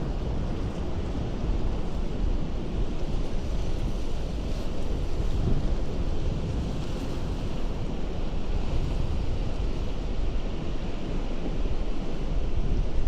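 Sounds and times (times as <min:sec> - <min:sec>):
ocean surf on rocks: 0:00.0 - 0:13.0.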